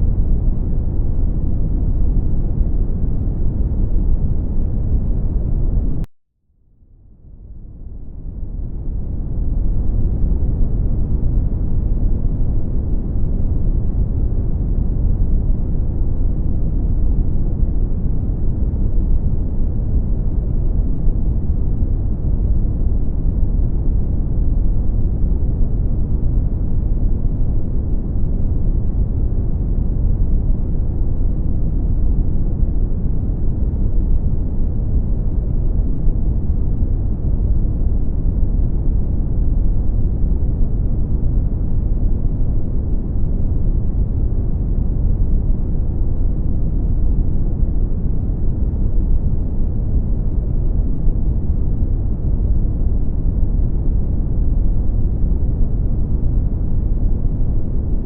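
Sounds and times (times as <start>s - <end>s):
deep steady brown noise: 0.0s - 6.1s, 7.1s - 58.0s.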